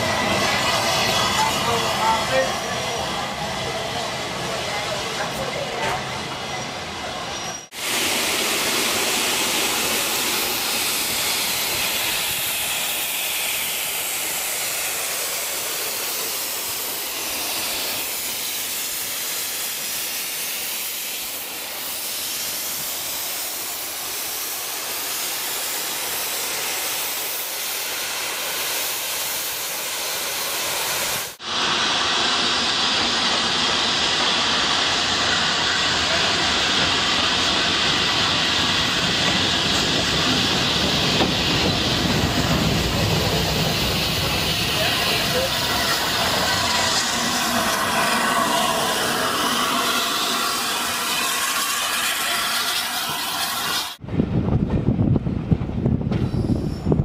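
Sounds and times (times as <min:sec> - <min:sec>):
steam locomotive hissing steam: 0:00.0 - 0:54.0
train running: 0:00.0 - 0:57.0.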